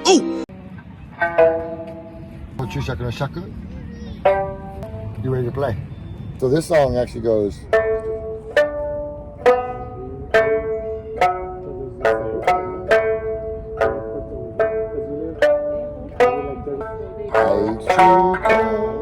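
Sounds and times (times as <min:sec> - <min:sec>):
plucked lute notes: 0:00.0 - 0:03.2, 0:04.0 - 0:05.5, 0:06.8 - 0:19.0.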